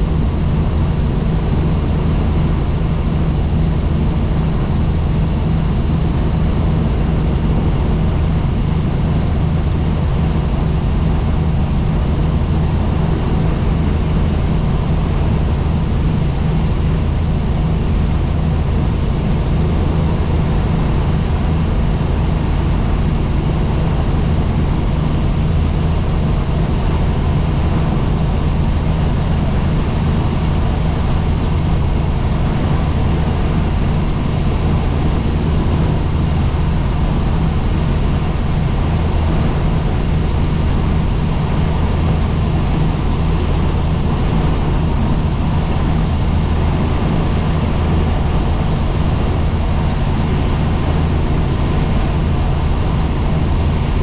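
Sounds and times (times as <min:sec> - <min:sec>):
helicopter rotor drone: 0:00.0 - 0:54.0.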